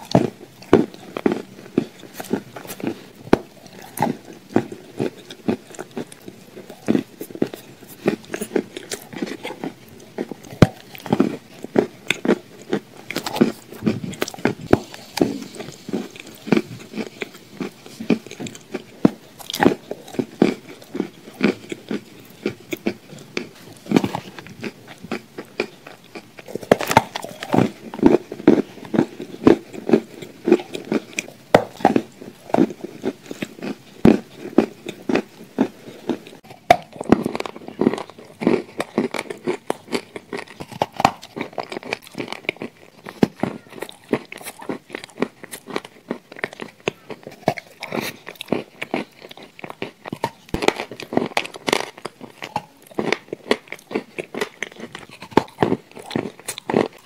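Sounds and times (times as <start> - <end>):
chewing and lip smacking: 0.0 - 57.0
soft cookie crunches: 0.0 - 57.0.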